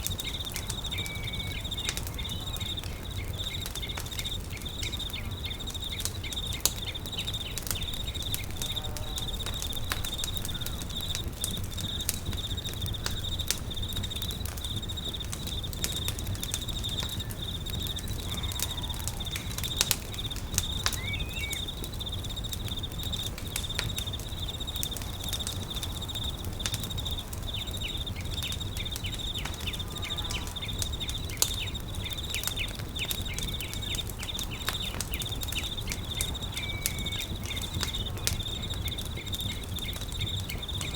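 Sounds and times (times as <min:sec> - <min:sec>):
bird chirp: 0:00.0 - 0:40.9
campfire crackling and popping: 0:00.0 - 0:40.9
insect trilling: 0:00.0 - 0:40.9.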